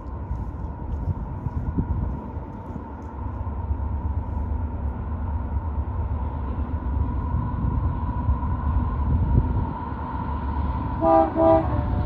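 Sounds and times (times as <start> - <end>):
distant diesel train rumble: 0.0 - 12.0.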